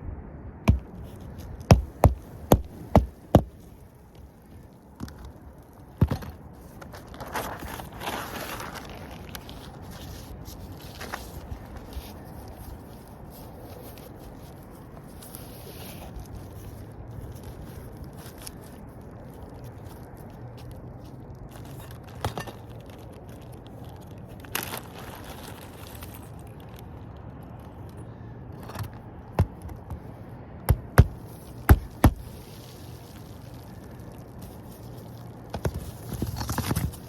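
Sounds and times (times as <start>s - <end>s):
crinkling and scraping on roof: 0.7s - 30.2s, 30.8s - 37.0s.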